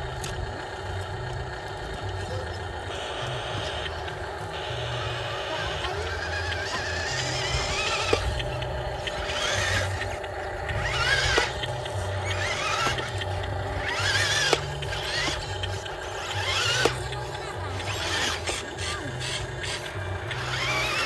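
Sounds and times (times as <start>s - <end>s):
toy truck electric motor whining: 0.0s - 21.0s.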